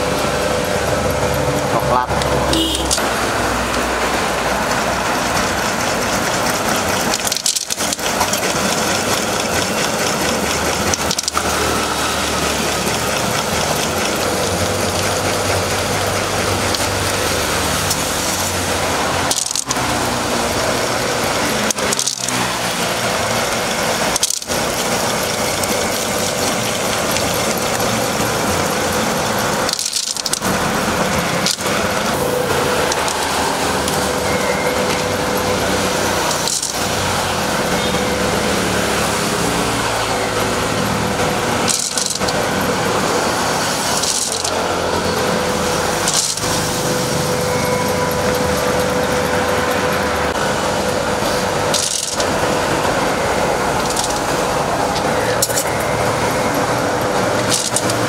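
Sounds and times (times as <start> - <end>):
electric grinder running: 0.0 - 58.0.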